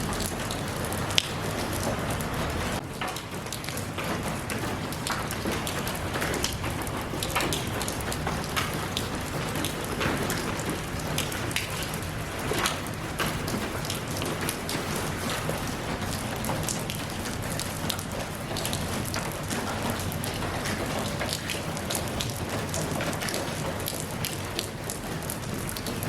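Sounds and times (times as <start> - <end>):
raindrops ticking on surface: 0.0 - 26.0
steady rain hiss: 0.0 - 26.0.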